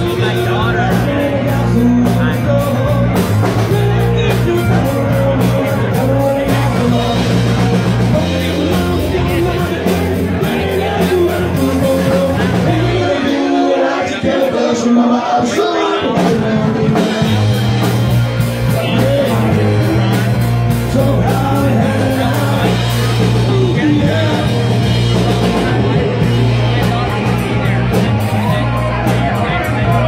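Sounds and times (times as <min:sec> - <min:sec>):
live rock band playing: 0:00.0 - 0:30.0
person singing: 0:00.0 - 0:30.0.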